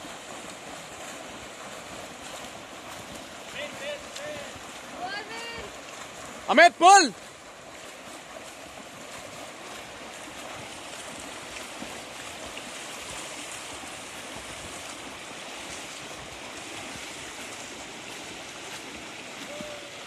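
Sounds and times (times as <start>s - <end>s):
swimmers splashing water: 0.0s - 20.0s.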